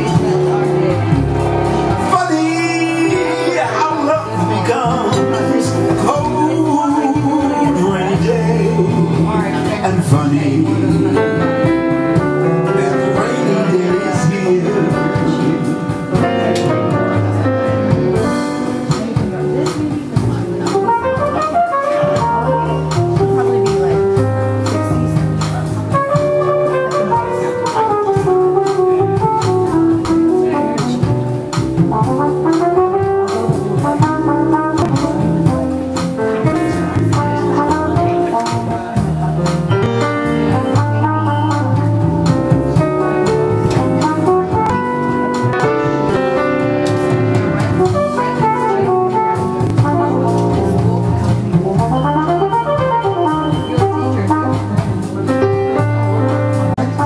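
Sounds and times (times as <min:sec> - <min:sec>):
keyboard accompaniment: 0:00.0 - 0:57.0
low bass notes: 0:00.0 - 0:57.0
sliding lead melody: 0:00.0 - 0:57.0.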